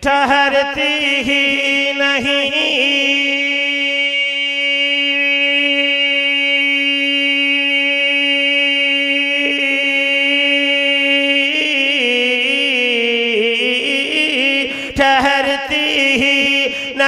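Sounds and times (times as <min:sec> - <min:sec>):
man singing a long note: 0:00.0 - 0:17.0.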